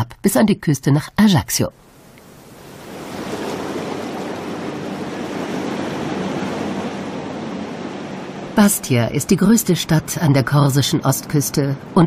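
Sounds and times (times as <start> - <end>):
sea waves and surf: 1.7 - 12.0.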